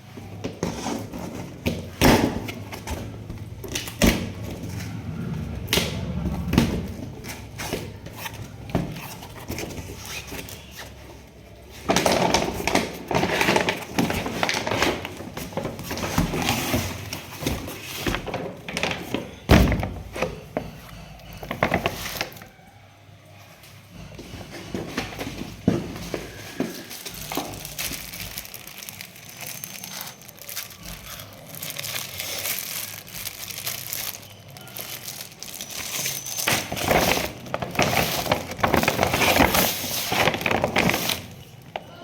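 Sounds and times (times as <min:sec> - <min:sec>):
packaging rustling: 0:00.3 - 0:22.5, 0:24.1 - 0:42.0.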